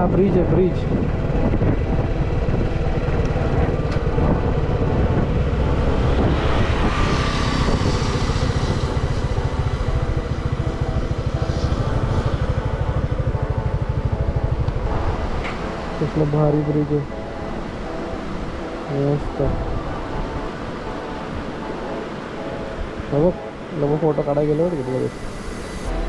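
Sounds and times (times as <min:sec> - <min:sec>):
motorcycle engine cruising: 0:00.0 - 0:22.8
wind: 0:00.0 - 0:26.0.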